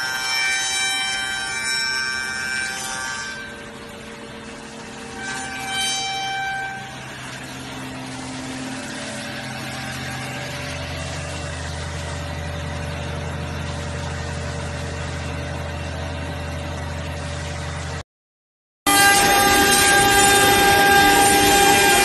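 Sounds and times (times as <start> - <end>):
woodworking machine humming: 0.0 - 18.0, 18.9 - 22.0.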